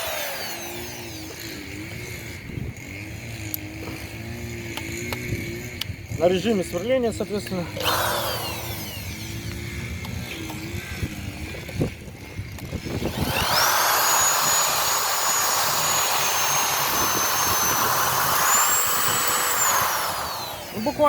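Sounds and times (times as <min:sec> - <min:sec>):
electric drill boring wood: 0:00.0 - 0:21.0.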